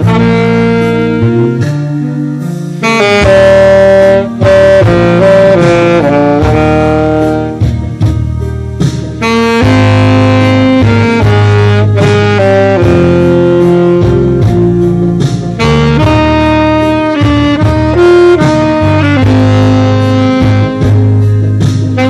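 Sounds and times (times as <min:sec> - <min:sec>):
slow instrumental melody: 0:00.0 - 0:22.0
steady bass line: 0:00.0 - 0:22.0.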